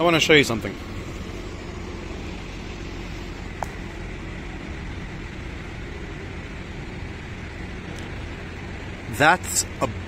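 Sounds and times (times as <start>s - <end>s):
city traffic hum: 0.0s - 10.0s.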